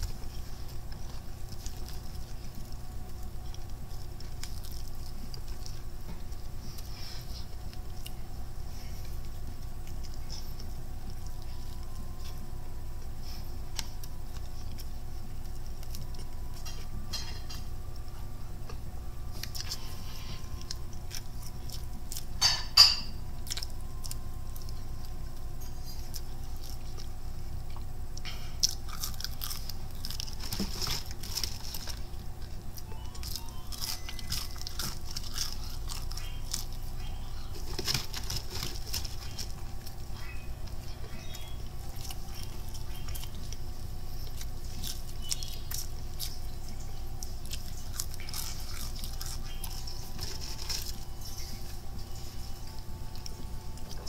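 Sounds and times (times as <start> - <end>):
chewing and crunching fried food: 0.0 - 54.0
low hum: 0.0 - 54.0.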